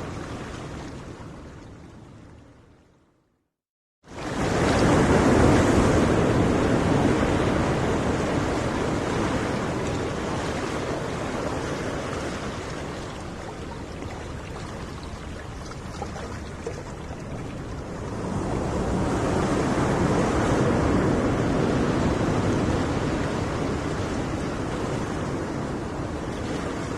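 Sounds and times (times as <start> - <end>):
ocean waves washing in: 0.0 - 2.7, 4.0 - 26.9.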